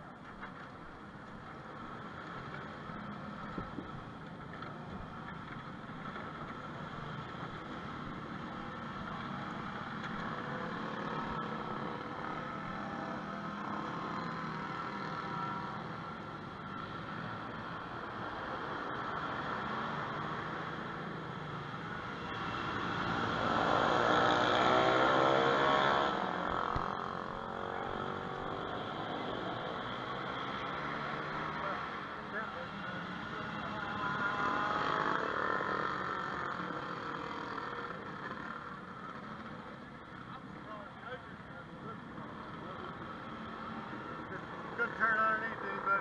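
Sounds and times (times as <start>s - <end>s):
kart engines droning: 0.3s - 46.0s.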